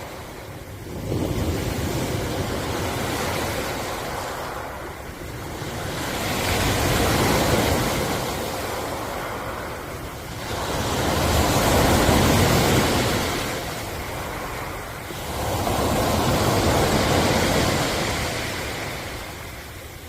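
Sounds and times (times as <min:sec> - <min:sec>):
ocean waves surging: 0:00.0 - 0:20.0.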